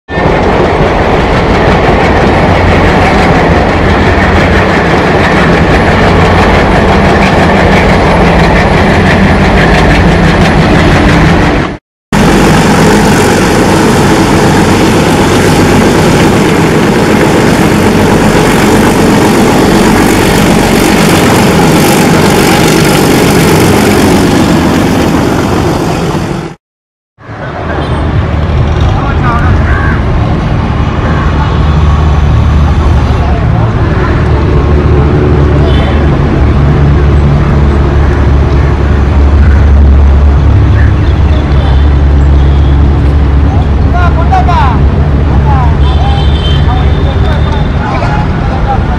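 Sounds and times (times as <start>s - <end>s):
diesel locomotive engine chugging: 0.1s - 26.6s, 27.2s - 48.9s.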